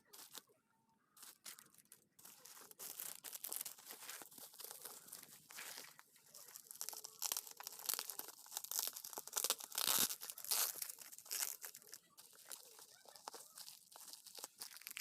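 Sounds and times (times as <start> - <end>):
packaging crinkling and tearing: 0.1 - 0.4, 1.2 - 15.0.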